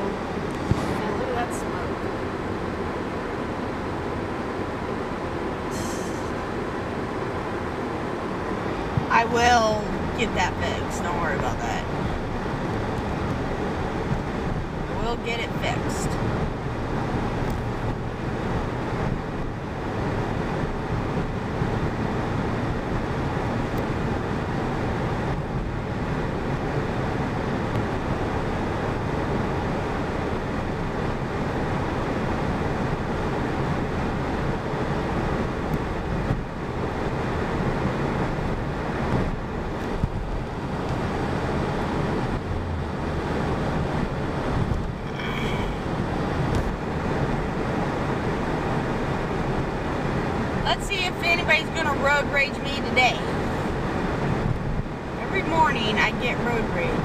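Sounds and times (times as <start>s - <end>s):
road and engine noise in truck cab: 0.0s - 57.0s.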